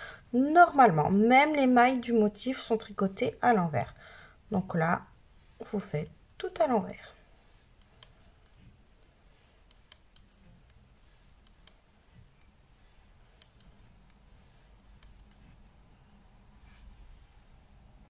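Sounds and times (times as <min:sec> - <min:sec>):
knitting needles clicking: 0:01.1 - 0:17.3.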